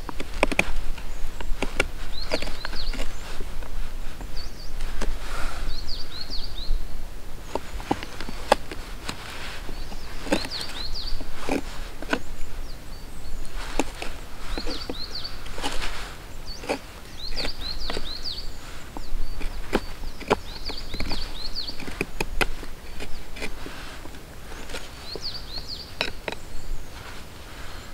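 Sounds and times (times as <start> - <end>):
knife shaving wood: 0.0 - 5.8, 7.3 - 27.9
small bird chirping: 0.0 - 27.9.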